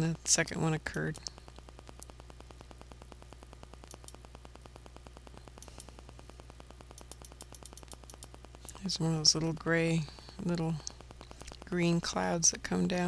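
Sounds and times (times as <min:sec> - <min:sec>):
faint electrical hum: 0:00.0 - 0:13.0
fast ticking buzz: 0:00.0 - 0:13.0
static hiss: 0:00.0 - 0:13.0.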